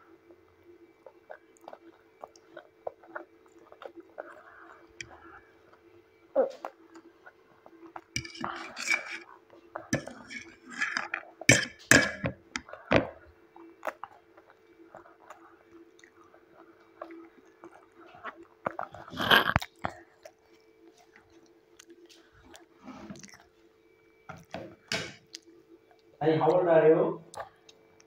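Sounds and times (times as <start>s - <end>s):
child chewing noodles: 0.0s - 26.2s, 27.3s - 28.0s
faint steady hum: 0.0s - 28.0s.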